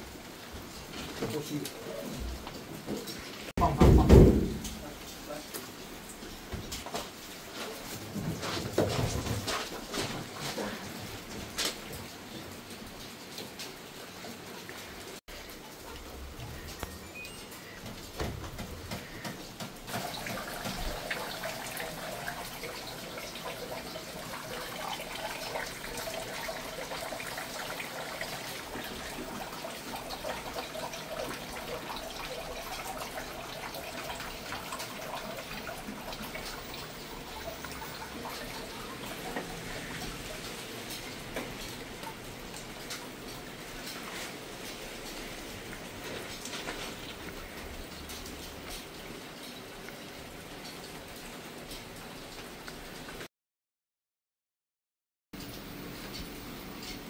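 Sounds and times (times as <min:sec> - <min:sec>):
water splashing in washing machine: 0:00.0 - 0:53.3.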